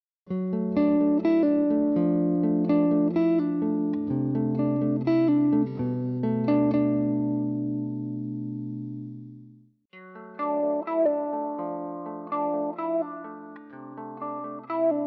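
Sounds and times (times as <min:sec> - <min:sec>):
arpeggiated guitar chords: 0:00.3 - 0:15.0.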